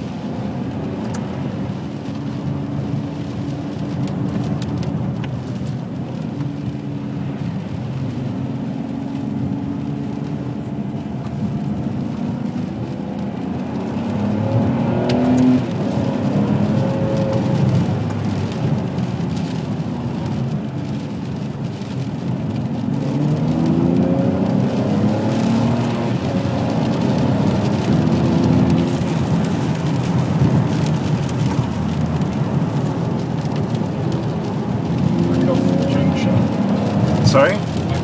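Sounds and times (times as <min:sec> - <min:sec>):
car engine revving: 0:00.0 - 0:38.0
tyres hissing on wet road: 0:00.0 - 0:38.0.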